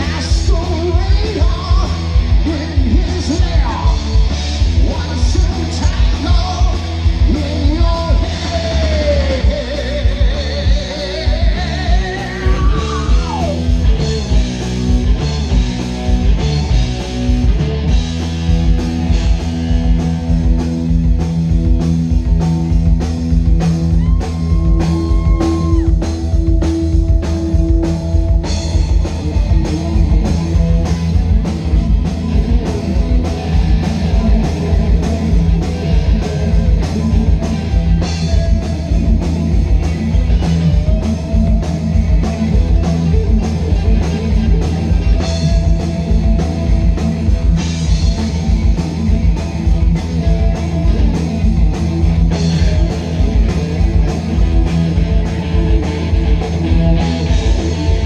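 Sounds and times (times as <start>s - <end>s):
drum kit beat: 0.0s - 58.0s
electric guitars: 0.0s - 58.0s.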